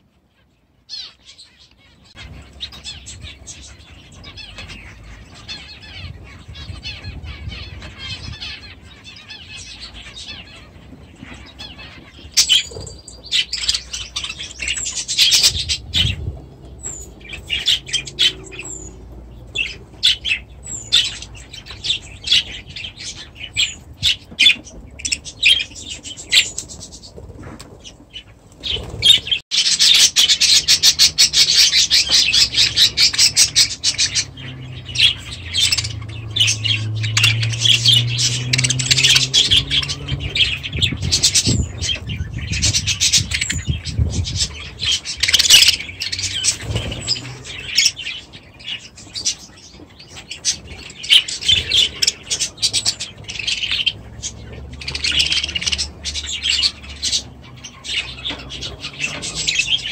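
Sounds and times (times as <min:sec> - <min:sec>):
chatter of many birds: 0:00.0 - 0:59.9
small birds chirping: 0:00.0 - 0:59.9.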